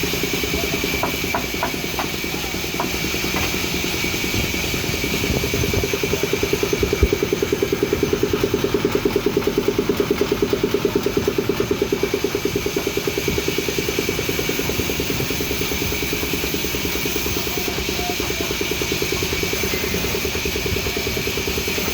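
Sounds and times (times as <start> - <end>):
band saw running: 0.0 - 21.9.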